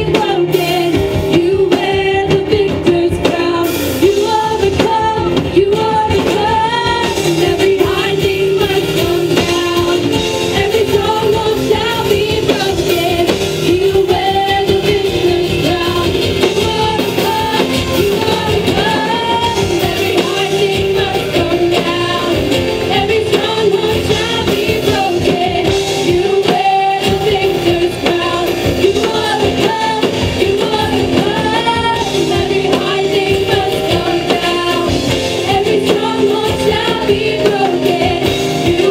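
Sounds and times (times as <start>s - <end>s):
band accompaniment: 0.0s - 38.9s
women singing: 0.0s - 38.9s.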